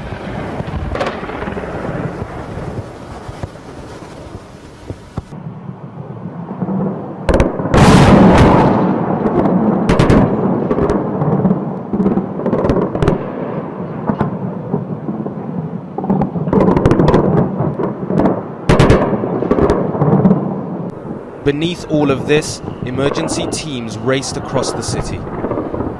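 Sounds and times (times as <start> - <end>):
explosion blast: 0.0 - 5.8, 6.4 - 15.4, 18.7 - 25.9.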